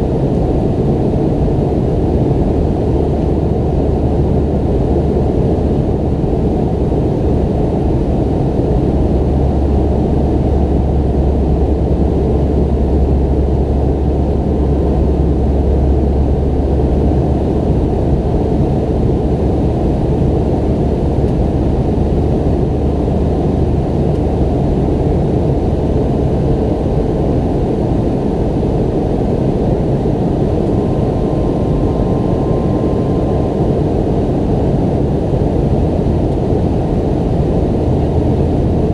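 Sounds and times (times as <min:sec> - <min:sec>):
jet engine cabin roar: 0:00.0 - 0:38.9.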